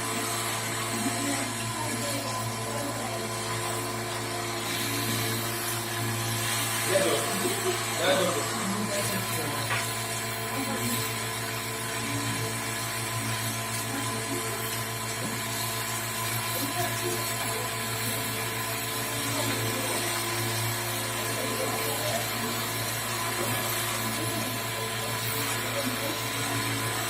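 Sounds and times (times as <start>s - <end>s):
drilling machine motor humming: 0.0s - 27.0s.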